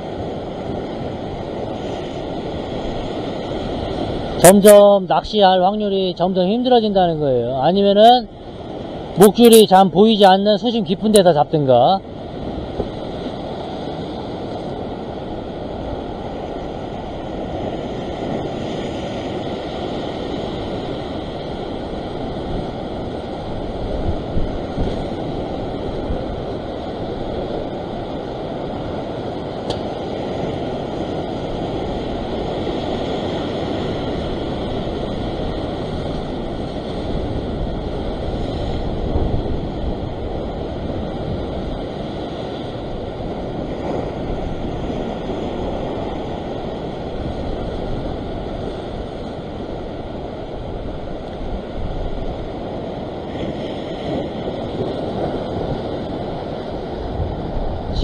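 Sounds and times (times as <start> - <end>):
ocean surf on rocks: 0.0 - 58.0
wind on microphone: 0.0 - 58.0.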